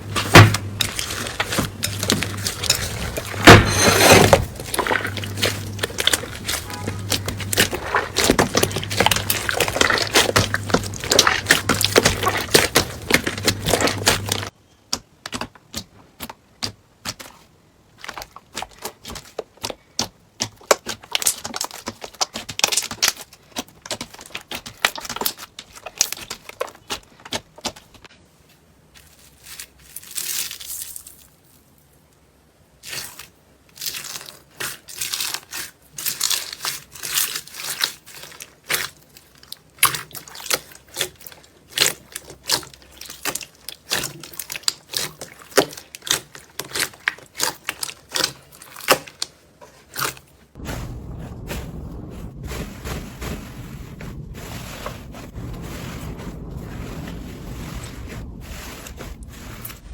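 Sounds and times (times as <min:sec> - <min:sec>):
slime crackling and popping: 0:00.0 - 0:14.5, 0:18.1 - 0:27.9, 0:32.8 - 0:59.9.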